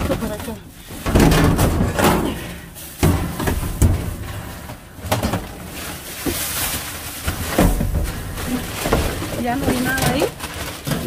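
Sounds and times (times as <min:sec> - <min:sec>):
items thumping in a dumpster: 0:00.0 - 0:11.0.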